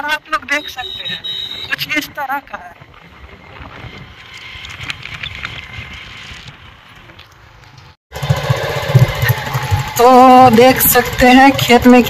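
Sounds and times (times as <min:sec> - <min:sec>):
motorcycle engine and road noise: 0:00.0 - 0:12.0.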